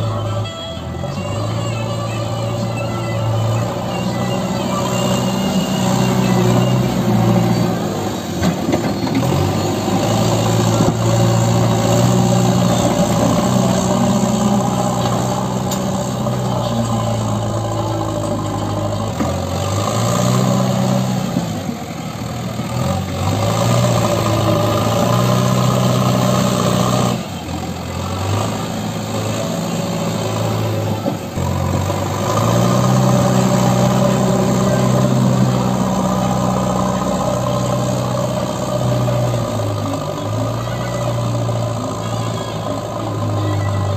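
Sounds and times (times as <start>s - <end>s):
diesel engine revving under load: 0.0s - 43.9s
loader bucket pushing earth: 0.0s - 43.9s.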